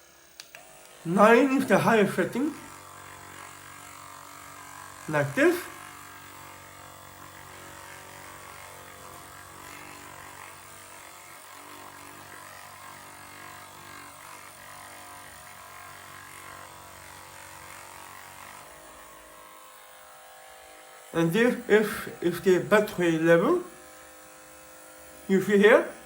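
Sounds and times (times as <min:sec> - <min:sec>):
massage gun motor buzzing: 0:00.0 - 0:26.0.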